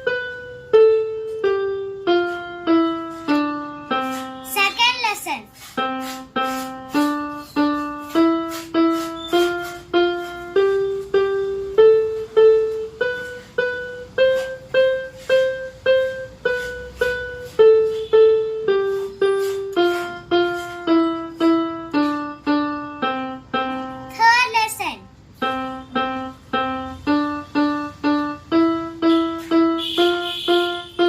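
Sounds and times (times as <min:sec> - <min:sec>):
keyboard piano notes: 0:00.0 - 0:31.0.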